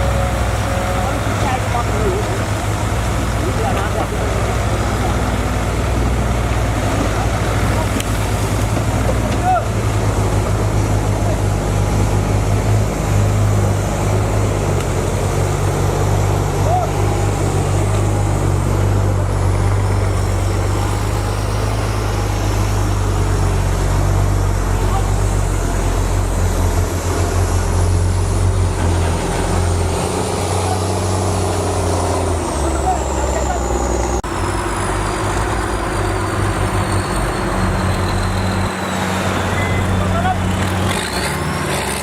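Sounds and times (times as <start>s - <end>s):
bulldozer diesel engine droning: 0.0s - 42.0s.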